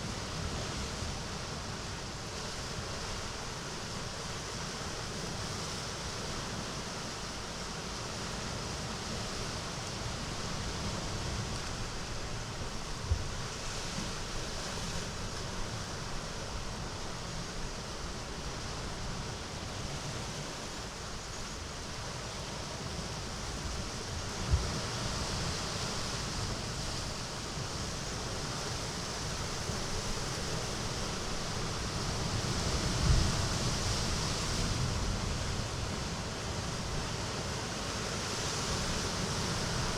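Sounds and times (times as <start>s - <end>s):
sea surf washing: 0.0s - 39.9s.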